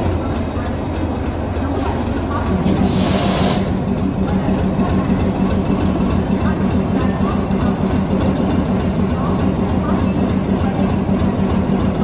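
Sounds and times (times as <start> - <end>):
locomotive engine humming: 0.0 - 12.0.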